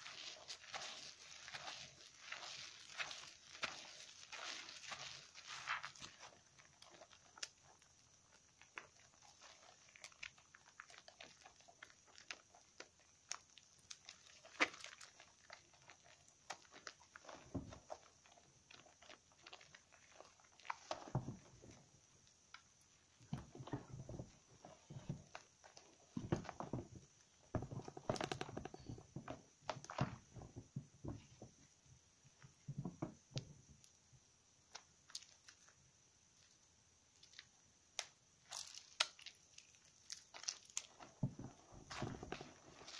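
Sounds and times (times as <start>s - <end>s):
squelching soap lather: 0.0s - 31.8s, 38.4s - 42.9s.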